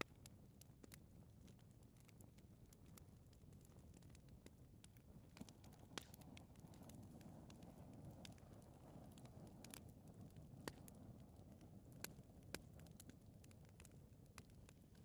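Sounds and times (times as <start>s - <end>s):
fire crackles: 0.0s - 15.0s
low rumble of flame: 0.0s - 15.0s.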